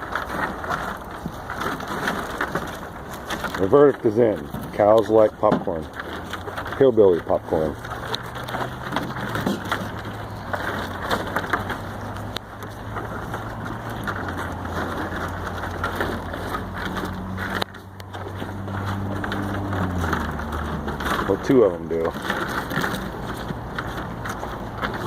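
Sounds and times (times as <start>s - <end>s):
cows crunching popcorn: 0.0s - 25.0s.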